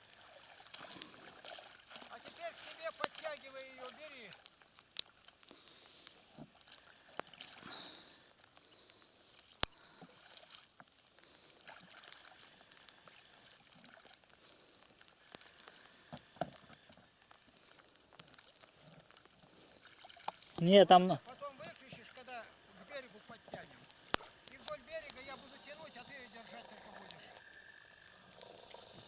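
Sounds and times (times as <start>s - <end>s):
faint oar strokes in water: 0.0s - 29.0s.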